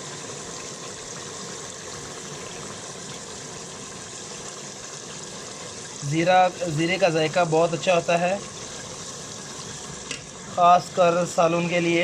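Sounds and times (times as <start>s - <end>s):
curry sizzling and bubbling in pot: 0.0s - 12.0s.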